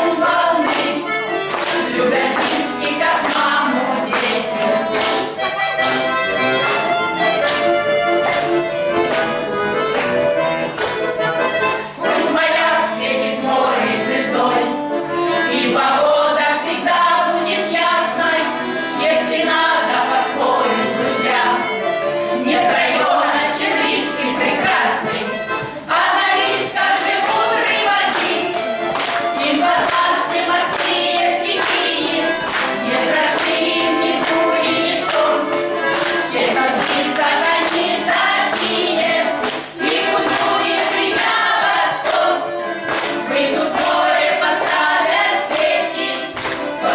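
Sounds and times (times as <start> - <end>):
group of voices singing: 0.0 - 6.0, 11.8 - 46.9
accordion: 0.0 - 46.9.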